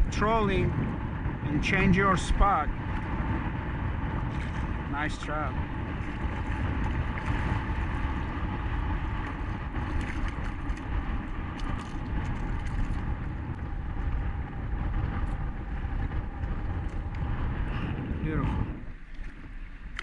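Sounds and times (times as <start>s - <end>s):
hiss of wind and water: 0.0s - 20.0s
wind buffeting microphone: 0.0s - 20.0s.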